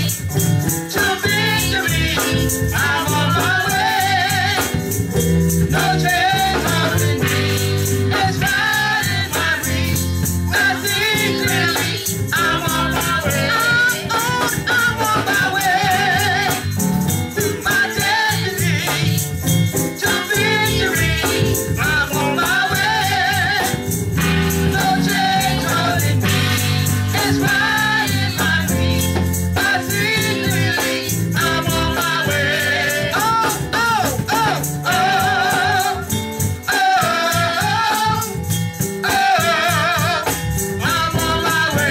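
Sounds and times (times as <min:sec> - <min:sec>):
gospel group singing: 0:00.0 - 0:41.9
rattling percussion: 0:00.0 - 0:41.9.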